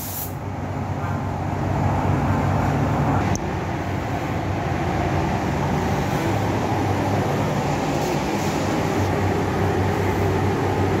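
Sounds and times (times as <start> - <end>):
ventilation hum and air rush: 0.0 - 11.0.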